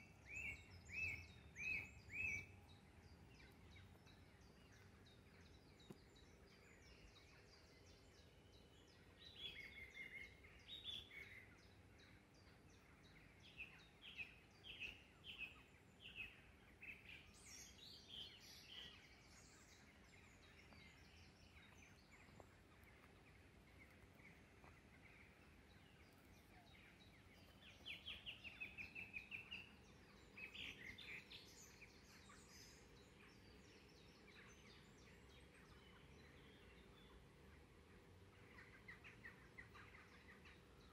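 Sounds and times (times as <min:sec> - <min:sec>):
faint birdsong: 0:00.0 - 0:40.9
quiet outdoor background noise: 0:00.0 - 0:40.9.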